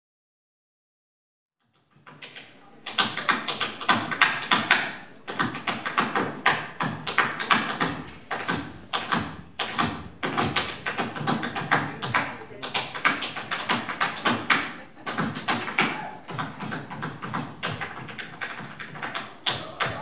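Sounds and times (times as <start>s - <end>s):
tap shoes tapping on stage: 1.9s - 20.0s.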